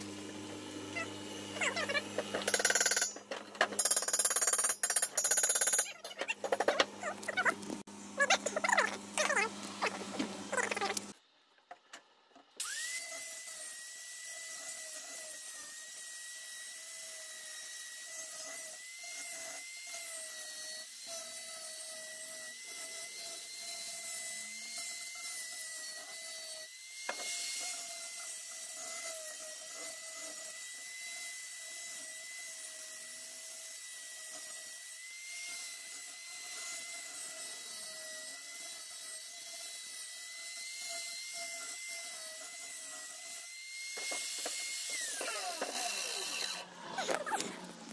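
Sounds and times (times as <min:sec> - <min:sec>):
angle grinder whining: 0:00.0 - 0:11.2, 0:12.6 - 0:47.9.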